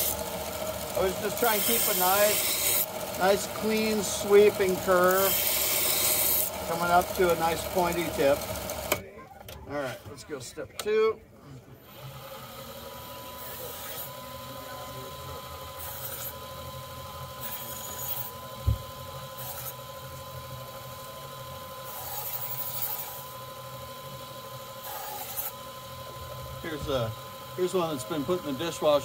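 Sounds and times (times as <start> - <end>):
belt grinder whining: 0.0 - 9.1, 11.8 - 29.0.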